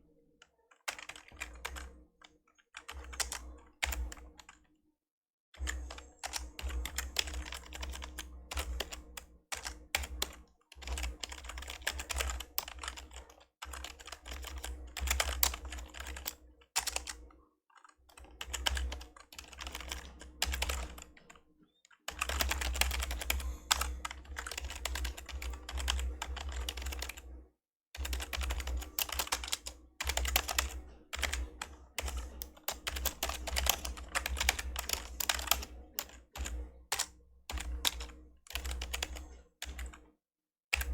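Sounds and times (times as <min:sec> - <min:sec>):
fast typing on computer keyboard: 0:00.5 - 0:04.7, 0:05.6 - 0:27.3, 0:28.0 - 0:40.0.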